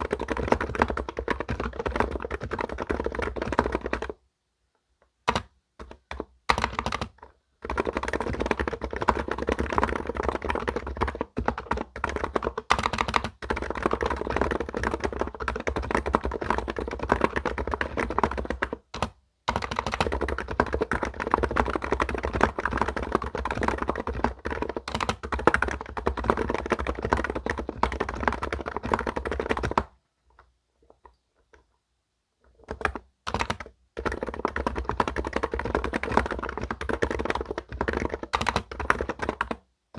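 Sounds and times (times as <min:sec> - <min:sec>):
fast keyboard typing: 0:00.0 - 0:04.2, 0:05.2 - 0:29.9, 0:32.5 - 0:39.6.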